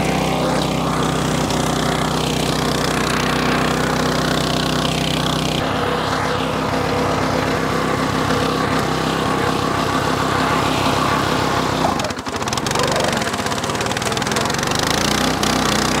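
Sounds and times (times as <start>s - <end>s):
mower engine running: 0.0s - 16.0s.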